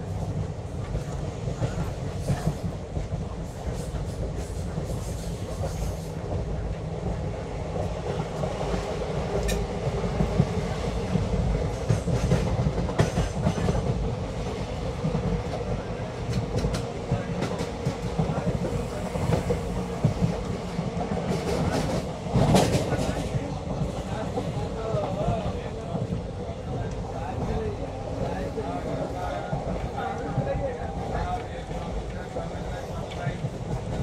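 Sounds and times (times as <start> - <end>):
train rumbling on track: 0.0 - 34.0.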